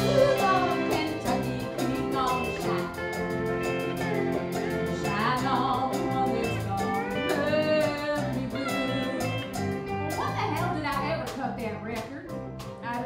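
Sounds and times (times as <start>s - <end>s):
live country band music: 0.0s - 13.0s.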